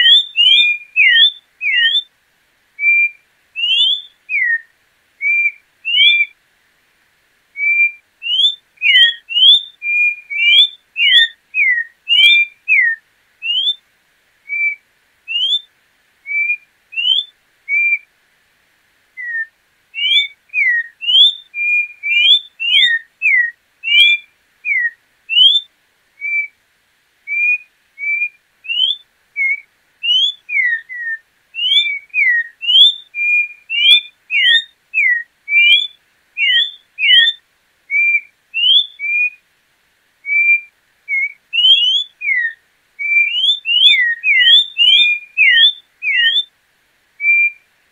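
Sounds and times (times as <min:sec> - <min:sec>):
bird singing whistled notes: 0:00.0 - 0:02.1, 0:02.8 - 0:06.4, 0:07.6 - 0:13.8, 0:14.4 - 0:18.1, 0:19.2 - 0:26.6, 0:27.3 - 0:39.4, 0:40.2 - 0:46.5, 0:47.2 - 0:47.7.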